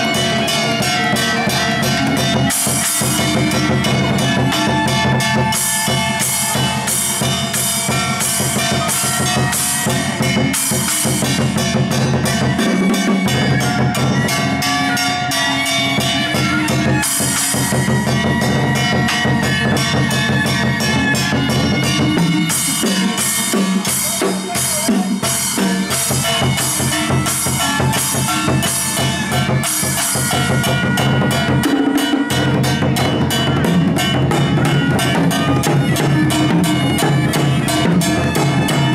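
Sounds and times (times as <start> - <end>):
barrel drums played fast: 0.0 - 38.9
cymbal crashing: 0.0 - 38.9.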